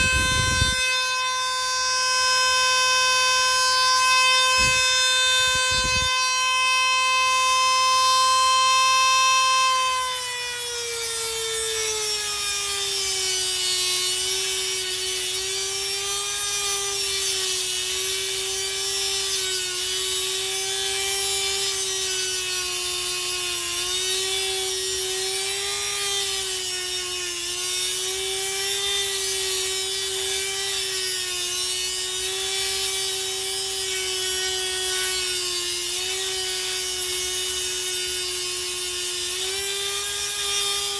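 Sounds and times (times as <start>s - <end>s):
rotary tool whining: 0.0s - 40.9s.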